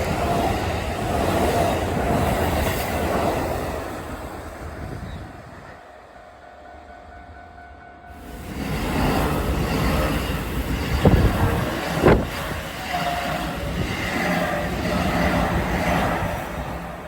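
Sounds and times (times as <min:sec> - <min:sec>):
electric train passing on rails: 0:00.0 - 0:17.0.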